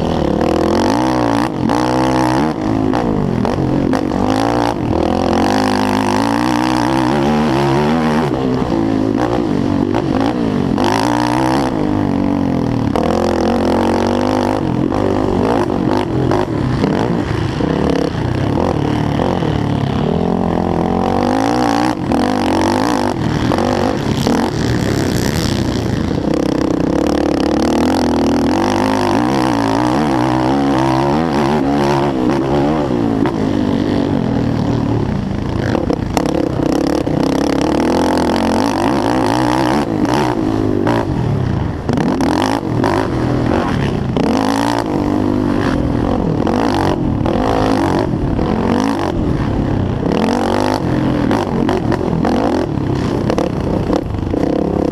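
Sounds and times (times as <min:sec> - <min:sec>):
quad engine revving: 0:00.0 - 0:54.9.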